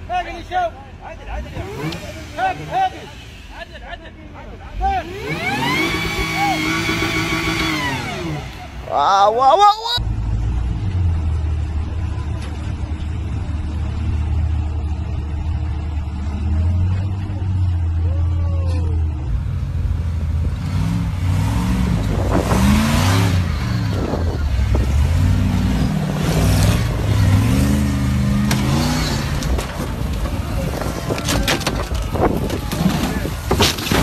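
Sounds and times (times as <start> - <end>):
off-road engine idling: 0.0 - 34.0
off-road engine revving: 1.2 - 3.7, 4.6 - 34.0.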